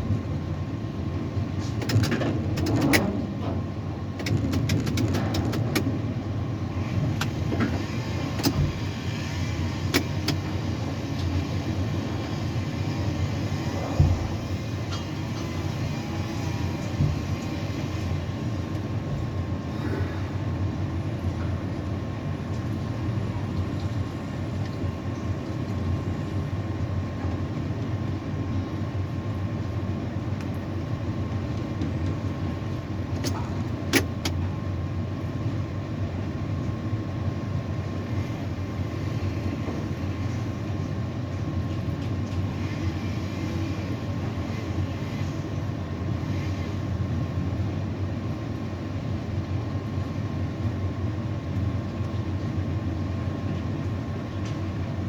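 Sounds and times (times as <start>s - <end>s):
crane machinery humming: 5.0s - 55.0s.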